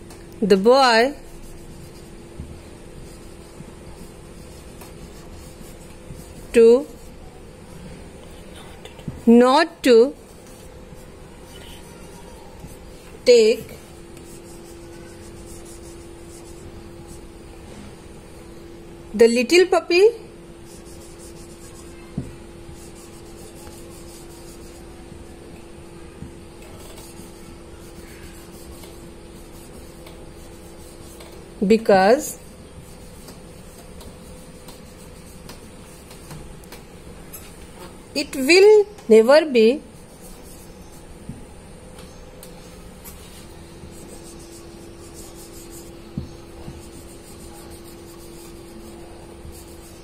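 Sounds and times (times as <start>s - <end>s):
steady hum and hiss: 0.0s - 50.0s
marker pen writing on whiteboard: 0.1s - 7.3s, 8.0s - 17.4s, 19.5s - 24.9s, 26.6s - 50.0s.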